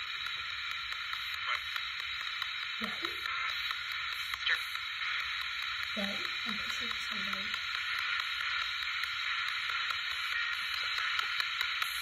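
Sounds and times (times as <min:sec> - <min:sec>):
radio static hiss: 0:00.0 - 0:12.0
rapid regular ticks: 0:00.0 - 0:12.0.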